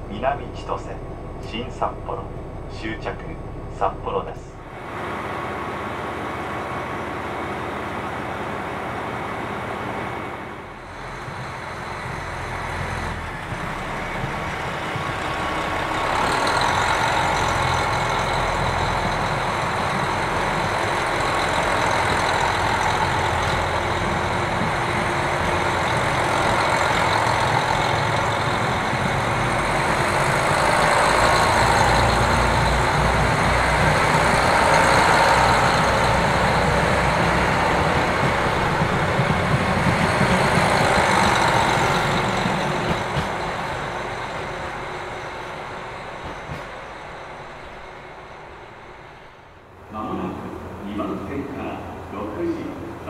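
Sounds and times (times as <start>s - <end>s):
diesel train engines running: 0.0s - 53.0s.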